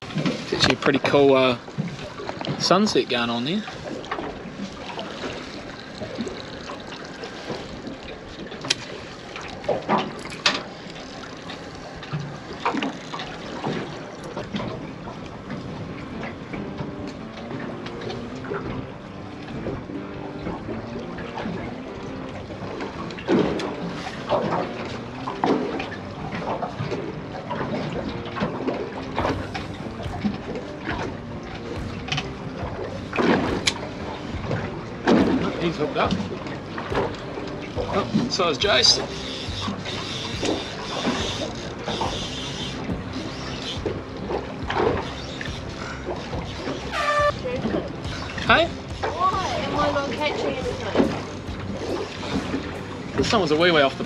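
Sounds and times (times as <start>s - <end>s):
water lapping against boat hull: 0.0s - 54.0s.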